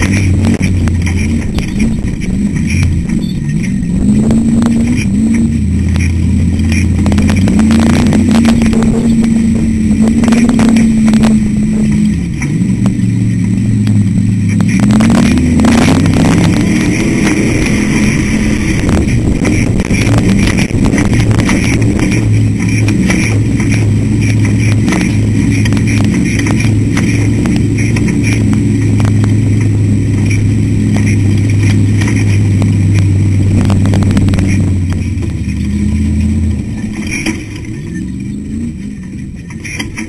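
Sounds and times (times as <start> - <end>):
chassis knocks and rattles: 0.0 - 40.0
race car engine revving: 0.0 - 40.0.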